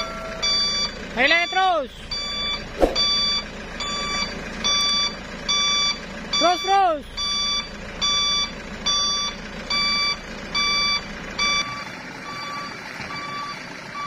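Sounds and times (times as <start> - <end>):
truck reversing alarm beeping: 0.0 - 14.0.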